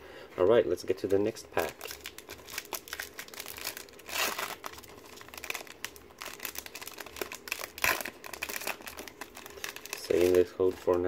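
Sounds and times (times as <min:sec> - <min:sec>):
foil wrapper crinkling and tearing: 0:01.5 - 0:11.0.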